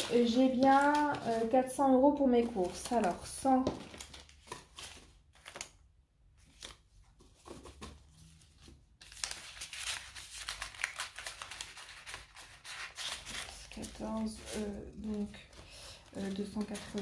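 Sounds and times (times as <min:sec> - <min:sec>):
banknotes rustling and flicking: 0:00.0 - 0:05.7, 0:06.4 - 0:17.0.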